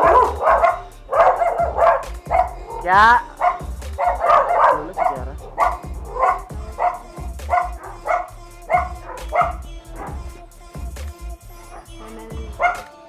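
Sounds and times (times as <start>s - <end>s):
dog barking: 0.0s - 10.2s, 11.7s - 12.9s.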